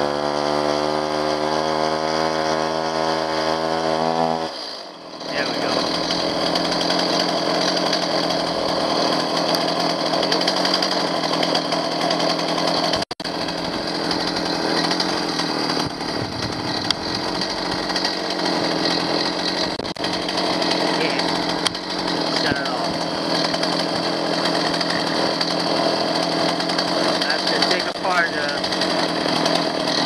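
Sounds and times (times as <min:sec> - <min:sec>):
chainsaw engine running: 0:00.0 - 0:30.0.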